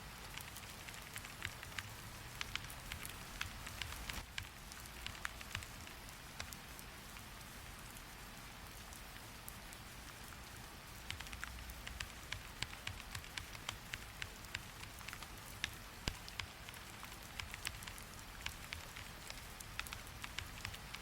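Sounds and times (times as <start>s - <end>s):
rain pattering with sharp clicks: 0.0s - 21.0s.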